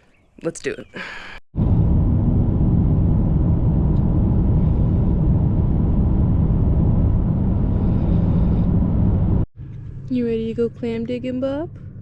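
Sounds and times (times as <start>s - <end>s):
car road and engine rumble: 1.6s - 12.0s.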